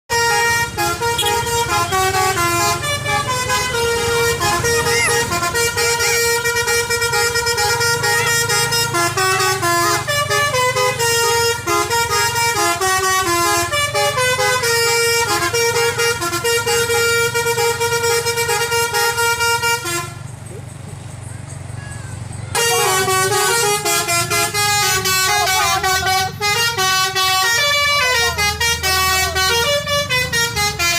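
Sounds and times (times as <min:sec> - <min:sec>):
bus horn playing a tune: 0:00.1 - 0:20.4, 0:21.8 - 0:30.9
bus engine running: 0:00.1 - 0:30.9.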